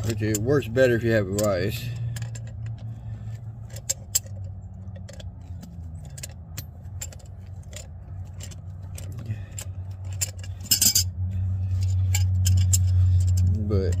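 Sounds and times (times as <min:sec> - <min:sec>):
metallic clicks of hand tools: 0:00.0 - 0:14.0
steady low hum: 0:00.0 - 0:14.0.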